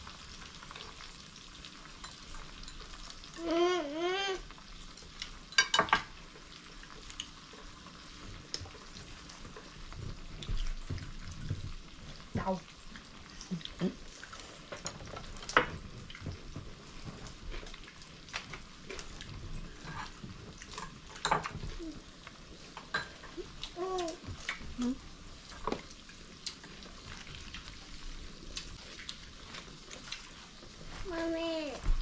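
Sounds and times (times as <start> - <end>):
meat sizzling: 0.0 - 32.0.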